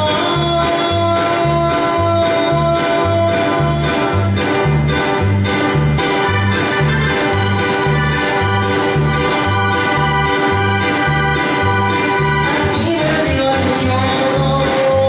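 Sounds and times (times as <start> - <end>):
bass line: 0.0 - 15.0
electronic keyboard organ chords: 0.0 - 15.0
steady percussion: 0.0 - 15.0.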